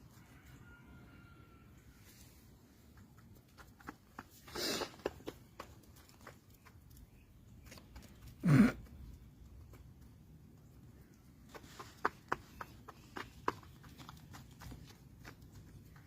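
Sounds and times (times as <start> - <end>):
chickens pecking: 2.2 - 16.0.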